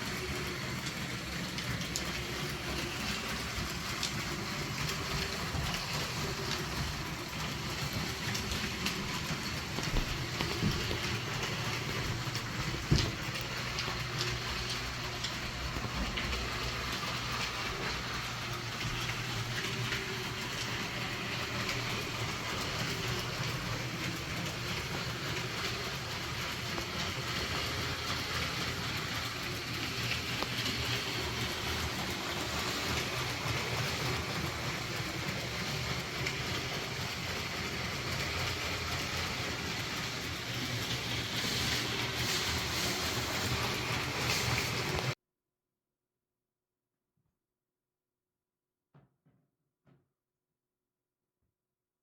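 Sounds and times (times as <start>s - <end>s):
wheels rattling over plastic rails: 0.0s - 45.2s.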